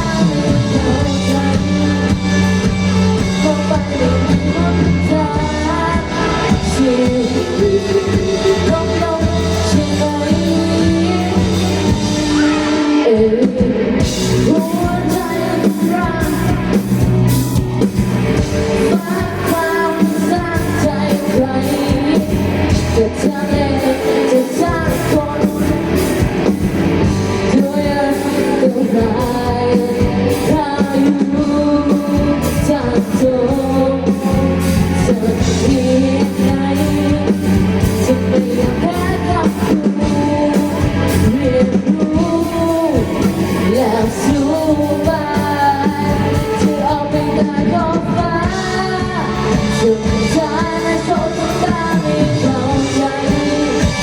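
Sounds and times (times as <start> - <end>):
steady drum beat: 0.0 - 12.4, 13.7 - 47.5
lead singer singing: 0.0 - 54.0
live band music: 0.0 - 54.0.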